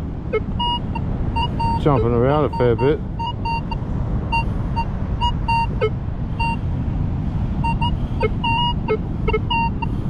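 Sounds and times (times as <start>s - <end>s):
metal detector beeps: 0.3s - 6.6s, 7.6s - 9.9s.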